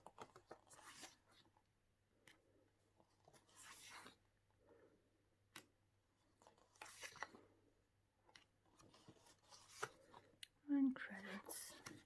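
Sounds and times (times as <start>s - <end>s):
book pages turning: 0.0s - 1.6s, 2.2s - 4.4s, 5.5s - 7.6s, 8.2s - 12.0s.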